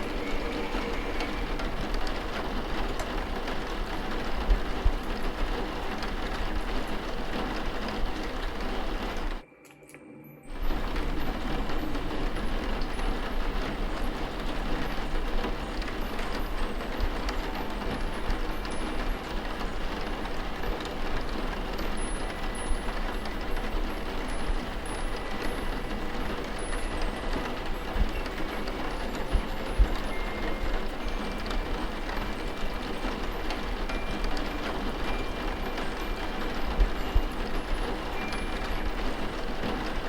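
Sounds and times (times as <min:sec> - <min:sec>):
steady rain: 0:00.0 - 0:09.4, 0:10.5 - 0:40.0.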